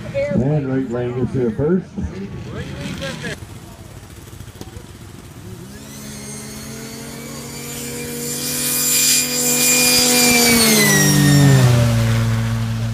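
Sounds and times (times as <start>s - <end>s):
snowmobile engine passing by: 0.0s - 12.9s.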